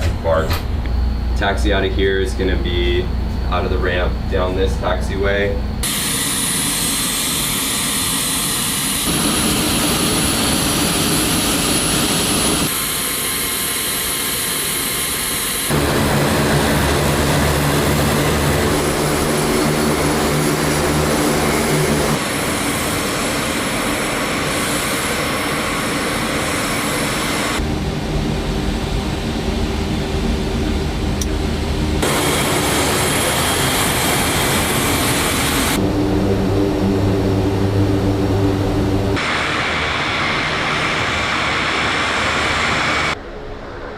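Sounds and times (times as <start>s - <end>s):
propeller aircraft drone: 0.0s - 43.9s.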